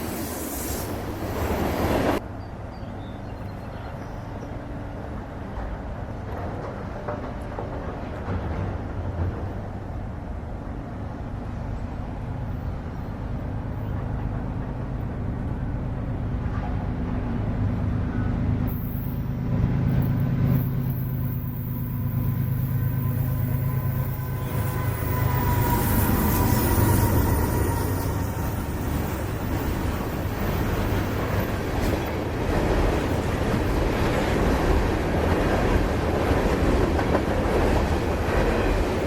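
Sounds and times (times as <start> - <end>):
locomotive engine drone: 0.0 - 39.0
rail and wheel noise: 0.0 - 39.0.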